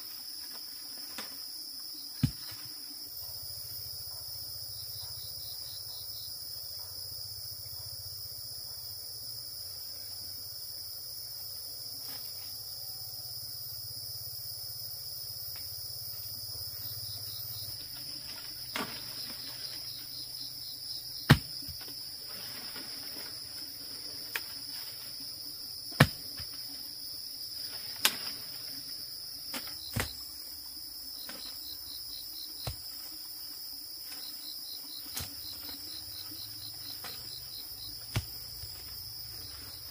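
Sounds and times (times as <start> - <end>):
insect chorus pulsing trill: 0.0 - 39.9.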